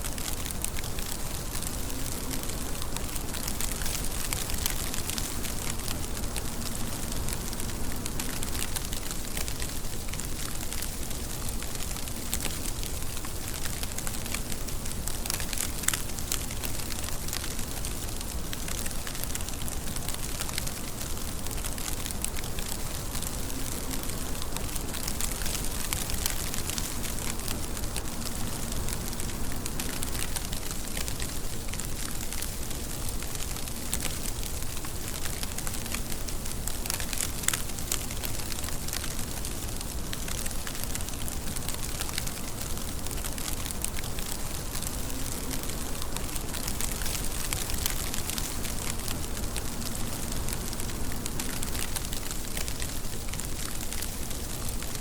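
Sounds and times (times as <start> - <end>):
crackling raindrop ticks: 0.0 - 55.0
steady rain: 0.0 - 55.0.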